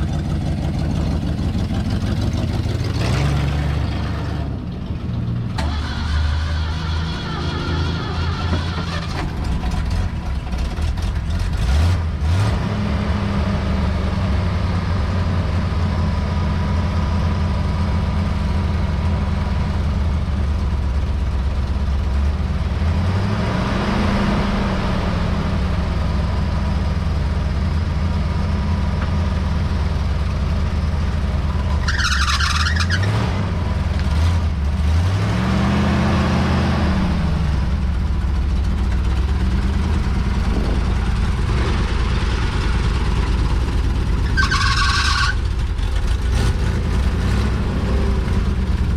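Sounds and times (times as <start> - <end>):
vehicle engine idling and revving: 0.0 - 48.9.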